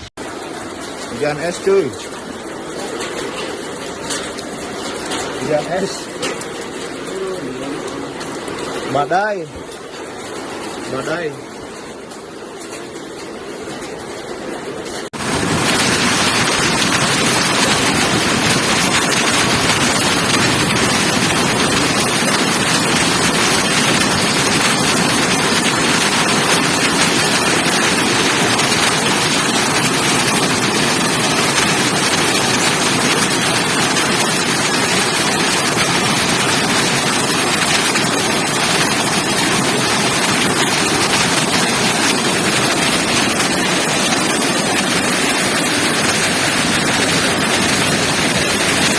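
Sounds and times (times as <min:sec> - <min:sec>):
rain and hail pelting: 0:00.0 - 0:48.9
wind: 0:00.0 - 0:48.9.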